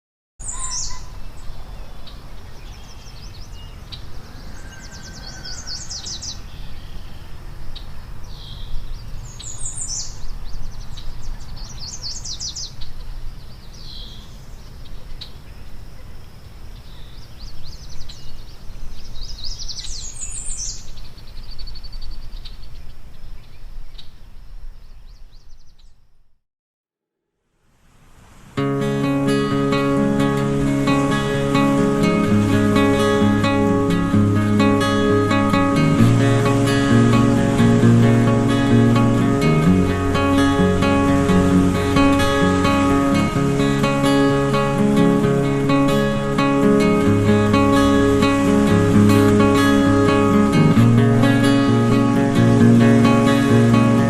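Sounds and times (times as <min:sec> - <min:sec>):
birds chirping: 0:00.4 - 0:26.1, 0:29.0 - 0:54.0.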